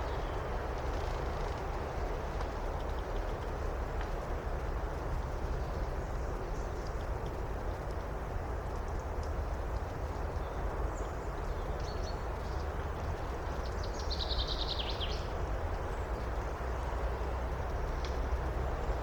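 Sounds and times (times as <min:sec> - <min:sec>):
wind through forest: 0:00.0 - 0:19.0.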